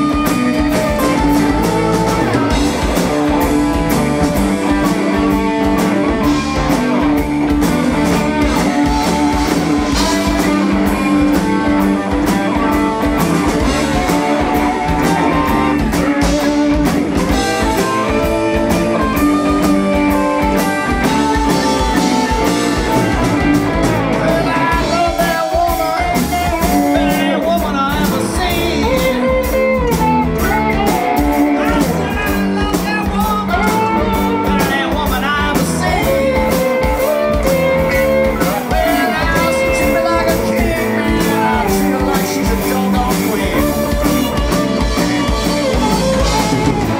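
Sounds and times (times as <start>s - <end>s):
live rock band playing: 0.0s - 46.9s
man singing: 0.0s - 46.9s.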